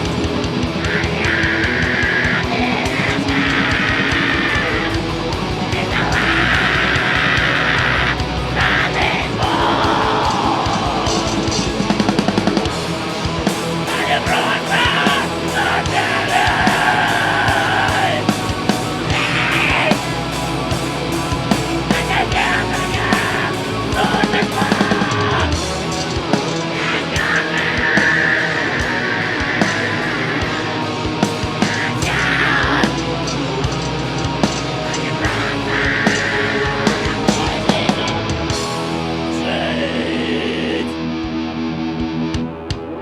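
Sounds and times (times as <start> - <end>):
harsh shouted vocals: 0.0 - 41.4
distorted guitars: 0.0 - 43.0
drums: 0.0 - 43.0.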